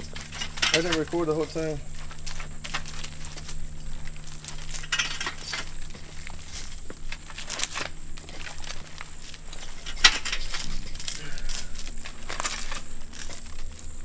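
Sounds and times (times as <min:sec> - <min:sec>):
crackling and rustling in dry straw: 0:00.0 - 0:14.0.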